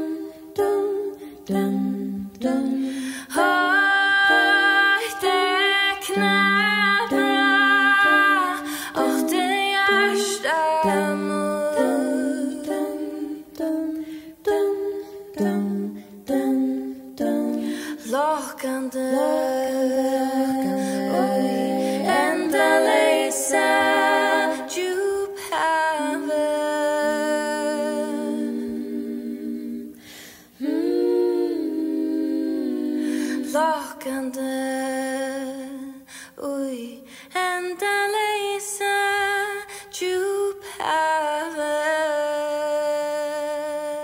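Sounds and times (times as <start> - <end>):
women singing in harmony: 0.0 - 44.0.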